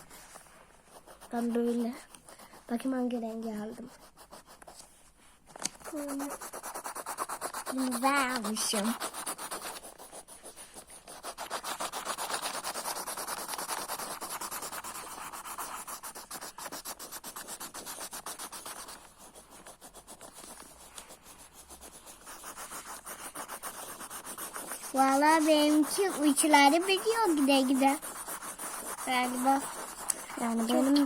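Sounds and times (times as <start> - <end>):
coloured pencils scribbling on paper: 0.0 - 31.0.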